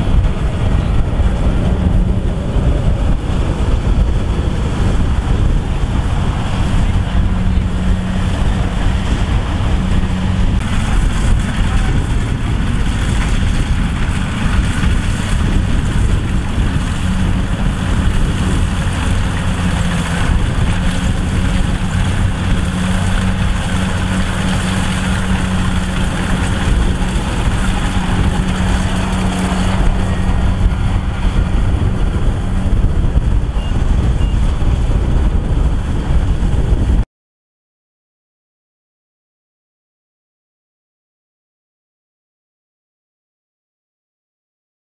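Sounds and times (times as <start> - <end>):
combine harvester diesel engine: 0.0 - 37.0
dense mechanical noise: 0.0 - 37.0.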